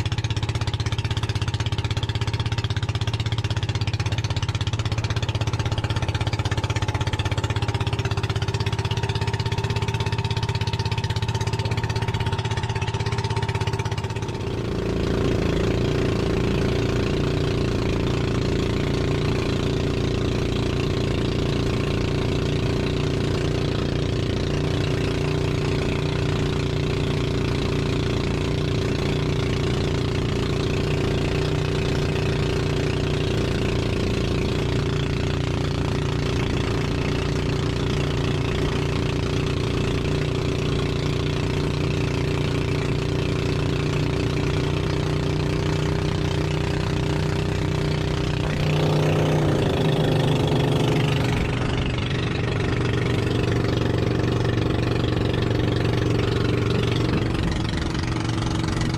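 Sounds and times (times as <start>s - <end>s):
boat engine droning: 0.0s - 58.9s.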